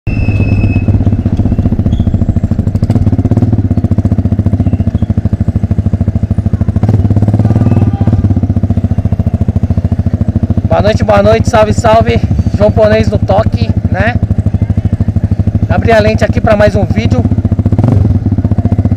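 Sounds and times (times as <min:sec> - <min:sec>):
motorcycle engine idling: 0:00.1 - 0:18.9.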